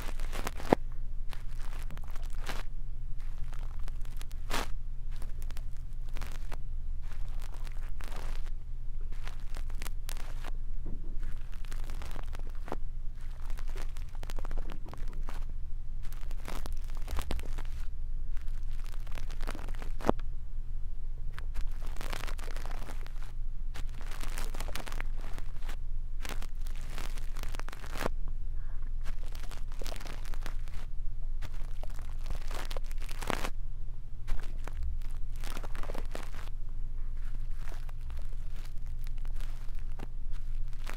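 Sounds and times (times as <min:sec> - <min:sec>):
brush scratching on microphone: 0:00.0 - 0:10.6, 0:11.2 - 0:15.5, 0:16.1 - 0:20.1, 0:21.4 - 0:28.1, 0:29.0 - 0:33.6, 0:34.3 - 0:40.9
steady low hum: 0:00.0 - 0:40.9.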